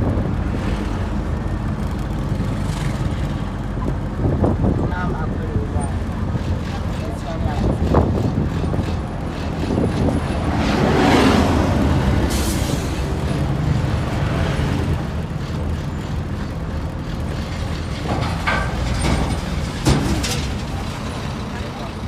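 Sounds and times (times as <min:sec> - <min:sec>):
heavy vehicles passing by: 0:00.0 - 0:22.0.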